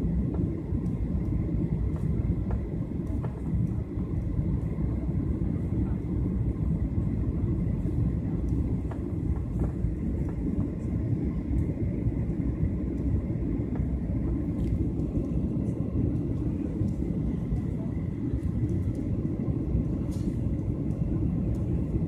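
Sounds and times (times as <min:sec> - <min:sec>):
faint steady whine: 0:00.0 - 0:22.0
jet airliner cabin rumble: 0:00.0 - 0:22.0.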